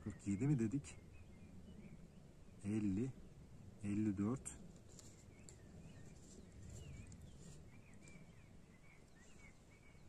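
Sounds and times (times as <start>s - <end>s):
bird chirping faintly: 0.0s - 10.0s.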